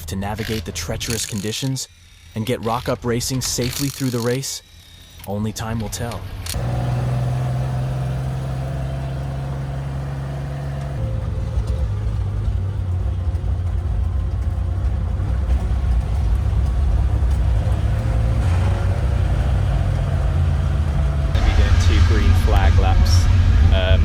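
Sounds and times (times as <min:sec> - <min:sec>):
racing car engine running: 0:00.0 - 0:24.0.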